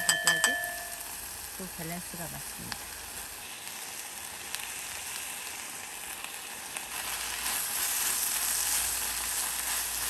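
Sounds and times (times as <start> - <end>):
food sizzling in a pot: 0.0 - 10.0.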